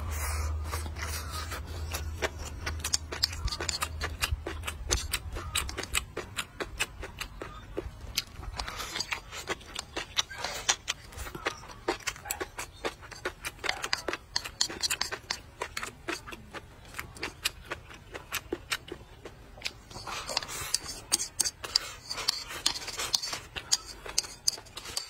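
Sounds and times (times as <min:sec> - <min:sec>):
chewing: 0:00.0 - 0:25.0
chopsticks clicking against a bowl: 0:01.9 - 0:19.0, 0:19.6 - 0:25.0.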